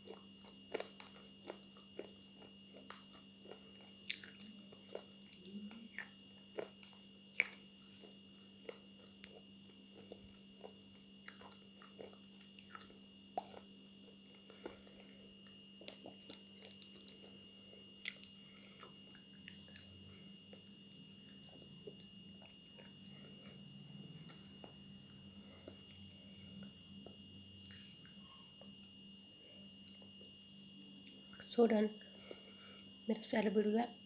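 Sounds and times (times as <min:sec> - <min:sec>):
crunchy chewing: 0:00.0 - 0:29.0
faint steady hum: 0:00.0 - 0:34.0.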